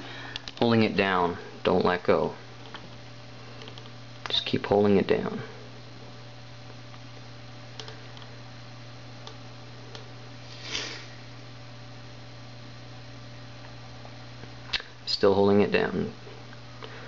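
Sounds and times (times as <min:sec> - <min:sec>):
desktop computer hum: 0:00.0 - 0:17.0.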